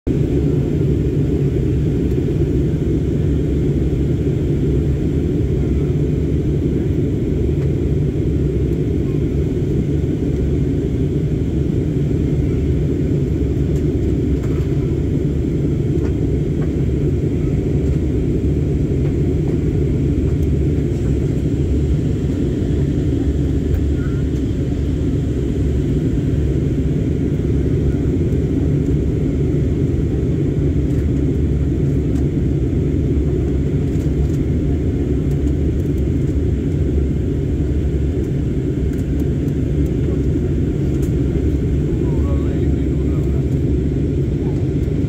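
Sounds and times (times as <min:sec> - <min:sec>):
airliner cabin engine rumble: 0:00.1 - 0:45.0.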